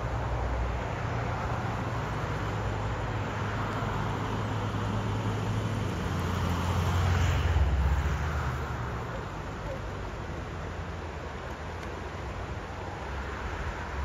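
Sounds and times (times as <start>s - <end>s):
steady rushing outdoor noise: 0.0s - 14.0s.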